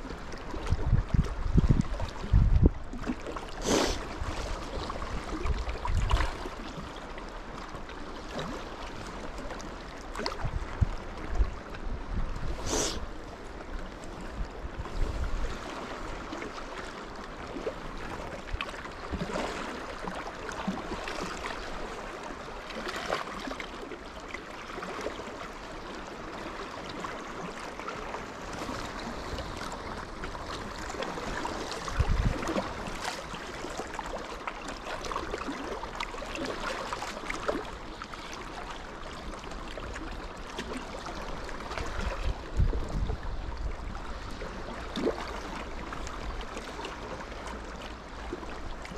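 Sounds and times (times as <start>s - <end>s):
waves lapping against rocks: 0.0s - 48.9s.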